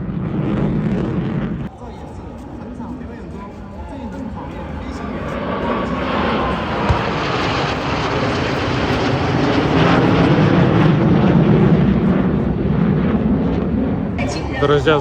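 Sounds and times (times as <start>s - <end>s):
aircraft engine roar: 0.0s - 15.0s.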